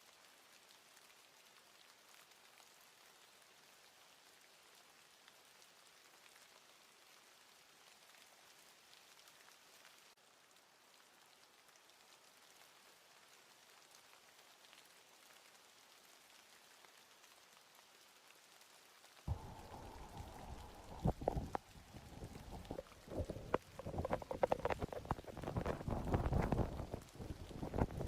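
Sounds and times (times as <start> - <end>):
faint patter of precipitation: 0.0 - 28.0.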